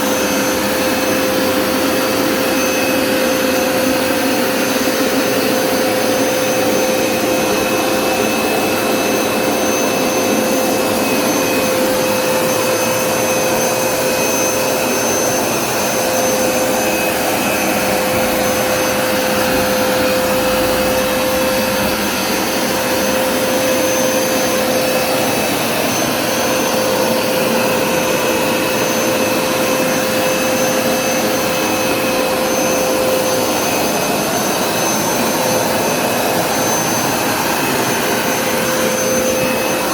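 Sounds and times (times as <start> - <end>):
carpet cleaner suction motor whine: 0.0 - 39.9.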